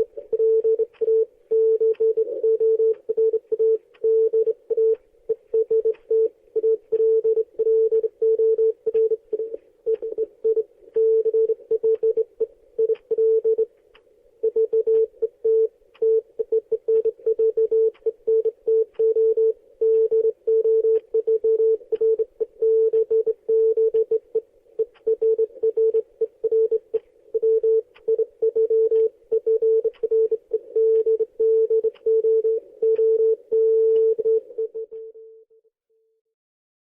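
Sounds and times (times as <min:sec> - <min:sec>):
morse code beeps: 0:00.0 - 0:13.7, 0:14.4 - 0:26.8, 0:27.4 - 0:35.3.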